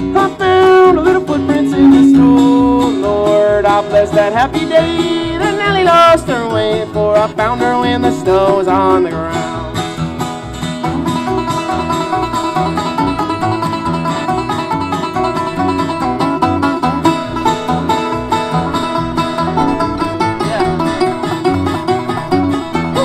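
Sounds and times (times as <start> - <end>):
banjo: 0.0 - 23.0.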